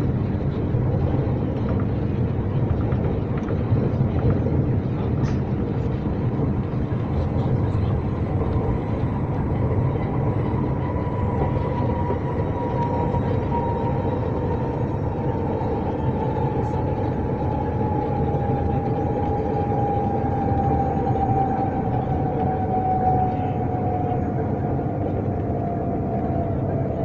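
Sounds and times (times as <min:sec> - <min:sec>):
faint train whine: 0:00.0 - 0:27.0
train rumbling: 0:00.0 - 0:27.0.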